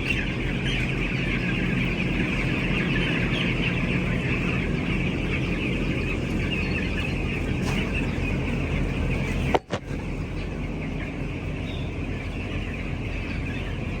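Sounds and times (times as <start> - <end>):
chickens cheeping and chirping: 0.0 - 14.0
steady low hum: 0.0 - 14.0.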